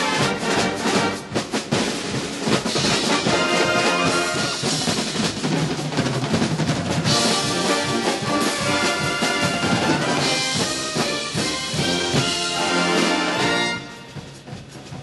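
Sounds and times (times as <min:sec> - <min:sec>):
marching band music: 0:00.0 - 0:15.0.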